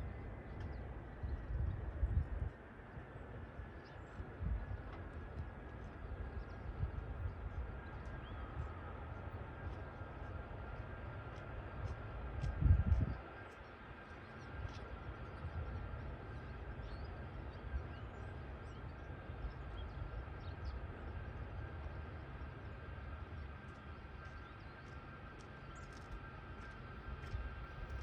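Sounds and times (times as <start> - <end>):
distant jet engines whining: 0.0 - 28.0.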